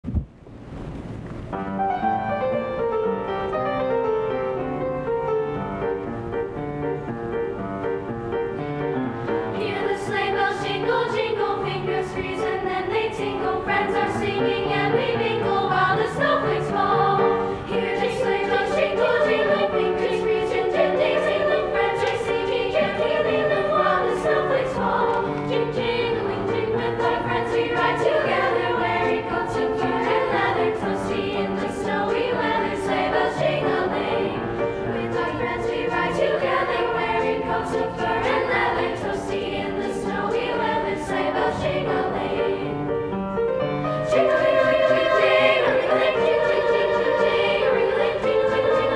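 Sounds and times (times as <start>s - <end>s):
piano accompaniment: 1.2s - 48.9s
girls' choir singing: 8.9s - 43.3s, 44.0s - 48.9s.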